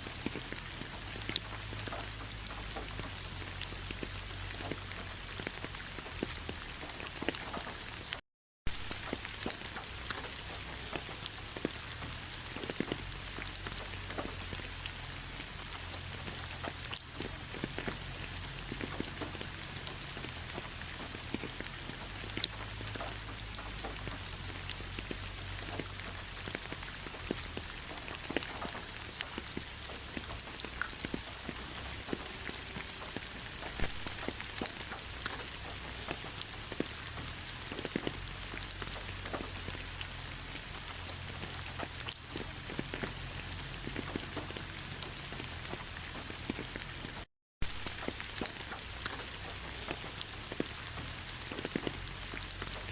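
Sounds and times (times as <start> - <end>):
rain pattering on leaves: 0.0 - 52.9.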